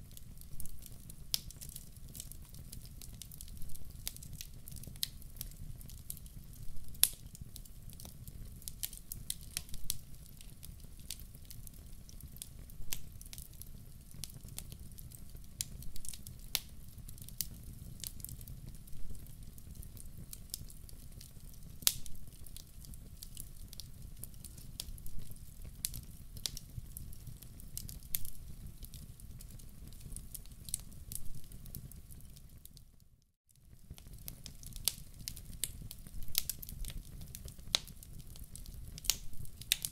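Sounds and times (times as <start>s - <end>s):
low rumble of flames: 0.0s - 32.7s, 33.6s - 39.9s
wood fire crackling and popping: 0.0s - 39.9s.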